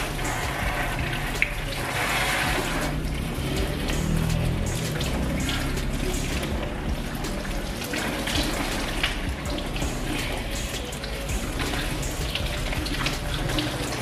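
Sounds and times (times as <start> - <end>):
shower sprayer water spraying: 0.0 - 14.0
water splashing and dripping: 0.0 - 14.0.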